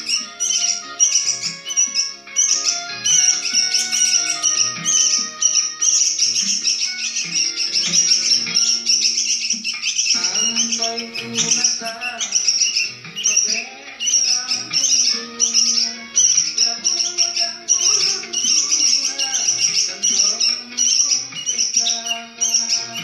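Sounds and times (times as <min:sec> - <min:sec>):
background music with steady beat: 0:00.0 - 0:23.0
songbird chirping and trilling: 0:00.0 - 0:23.0.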